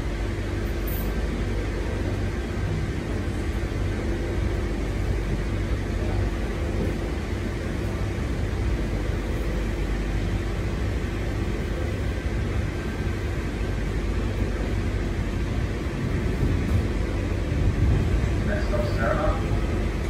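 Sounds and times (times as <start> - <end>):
train equipment hum: 0.0 - 20.0
train wheels rumbling on track: 0.0 - 20.0.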